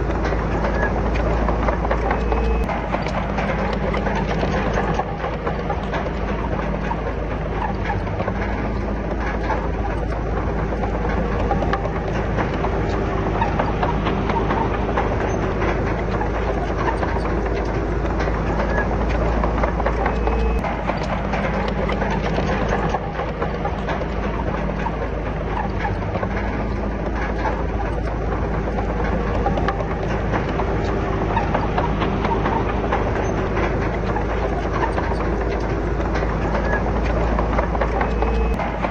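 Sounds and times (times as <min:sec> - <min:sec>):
bulldozer diesel engine: 0:00.0 - 0:38.9
steel tracks and rock clattering: 0:00.0 - 0:38.9.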